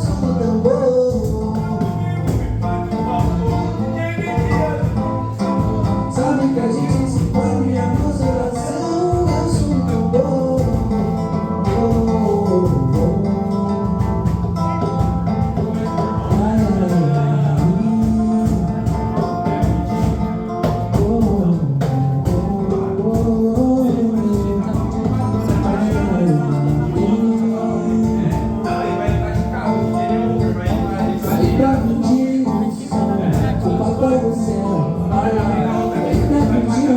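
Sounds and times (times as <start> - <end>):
guitar: 0.0 - 36.9
man singing: 0.0 - 36.9.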